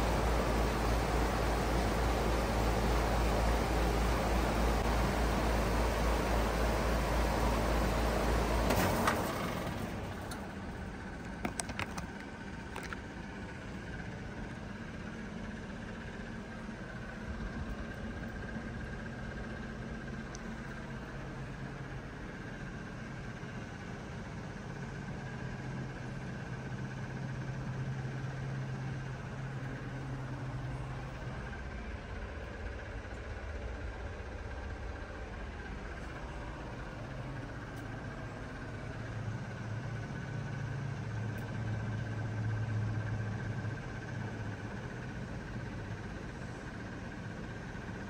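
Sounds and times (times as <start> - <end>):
compressor low hum: 0.0 - 48.0
fan rushing air: 0.0 - 48.0
mechanical hum with faint whine: 0.0 - 48.0.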